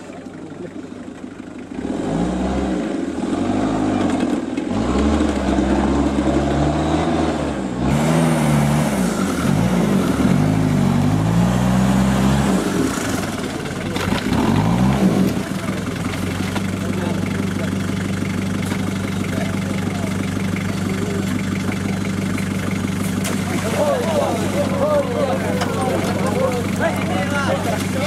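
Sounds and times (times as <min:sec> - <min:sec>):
off-road engines revving: 0:00.0 - 0:28.0.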